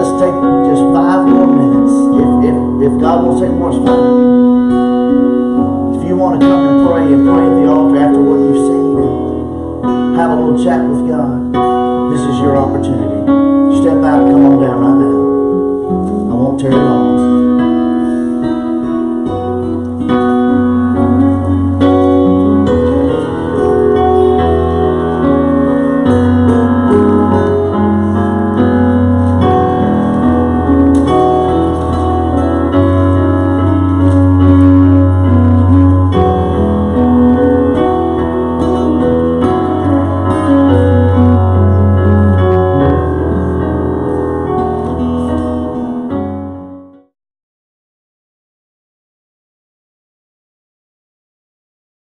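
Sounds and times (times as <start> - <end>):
slow piano-like keyboard music: 0.0 - 47.1.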